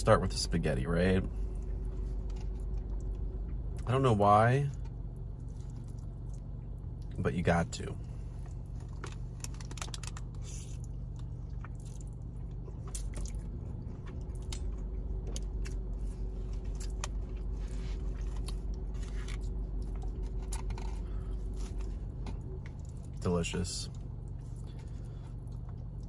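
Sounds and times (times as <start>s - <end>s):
steady low hum: 0.0s - 26.0s
chewing with wet mouth sounds: 1.2s - 3.9s, 4.7s - 7.3s, 8.0s - 23.3s, 23.9s - 26.0s.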